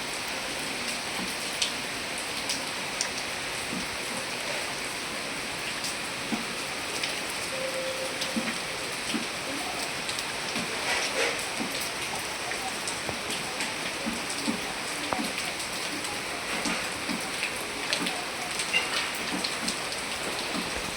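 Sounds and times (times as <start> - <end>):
heavy rain falling: 0.0 - 20.9
raindrops striking surfaces: 0.0 - 20.9.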